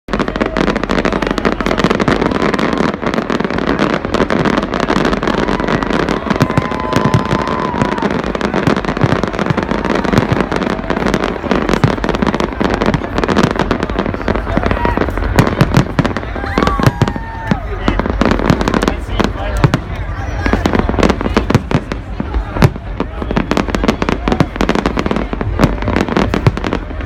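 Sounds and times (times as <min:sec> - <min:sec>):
fireworks bangs and crackles: 0:00.1 - 0:27.0.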